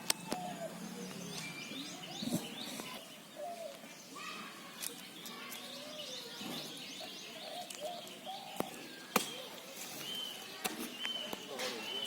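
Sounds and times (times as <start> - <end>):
birds chirping: 0.0 - 12.0
faint voices: 0.0 - 12.0.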